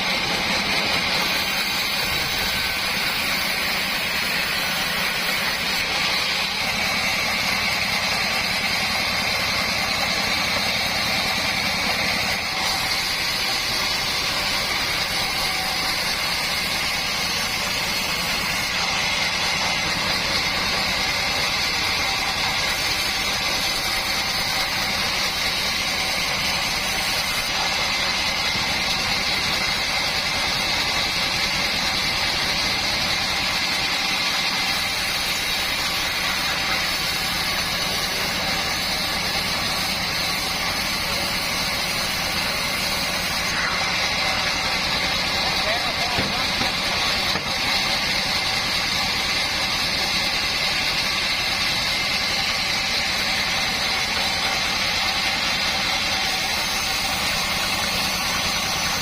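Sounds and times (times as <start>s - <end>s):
sawmill machine whine: 0.0s - 59.0s.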